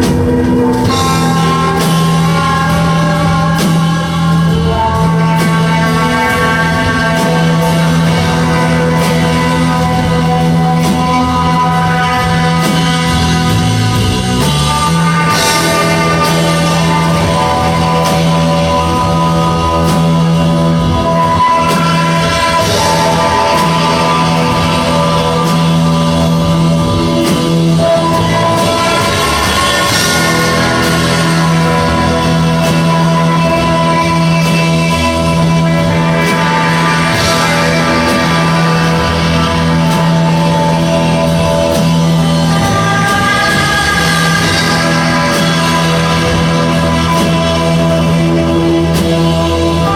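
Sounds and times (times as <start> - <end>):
droning low note: 0.0 - 49.9
live rock band playing: 0.0 - 49.9.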